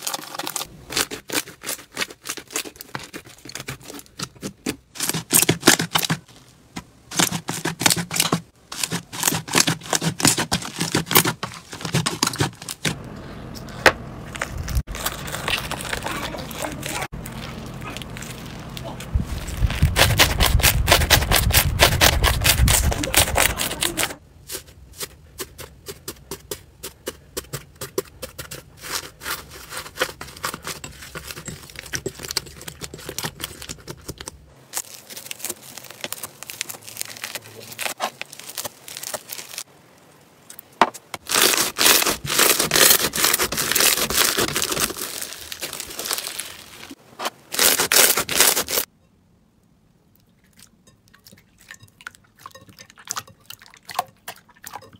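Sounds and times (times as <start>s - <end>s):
slime crackling and squelching: 0.0s - 13.0s, 13.6s - 26.5s, 28.0s - 39.7s, 41.2s - 48.9s.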